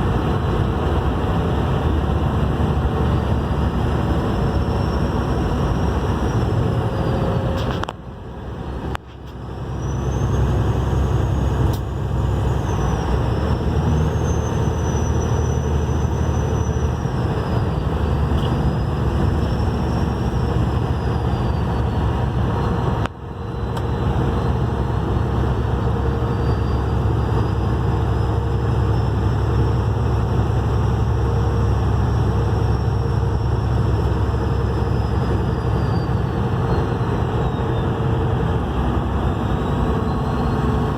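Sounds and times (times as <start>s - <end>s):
low engine rumble: 0.0s - 40.9s.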